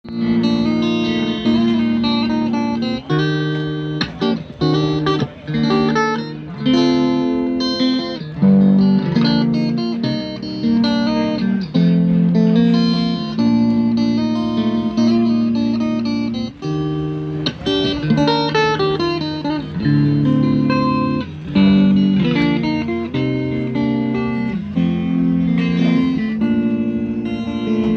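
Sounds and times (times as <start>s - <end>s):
guitar chords: 0.0s - 27.9s.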